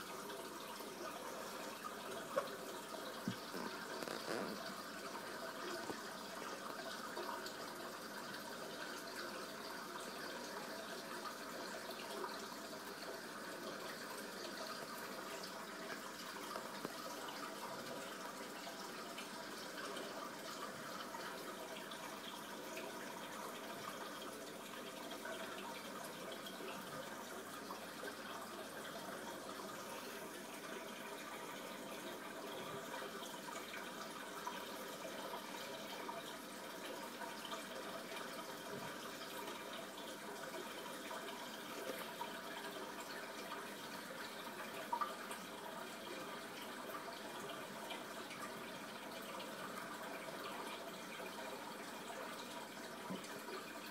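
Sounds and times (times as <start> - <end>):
aquarium water running: 0.0 - 53.9
small drips and ticks: 0.0 - 53.9.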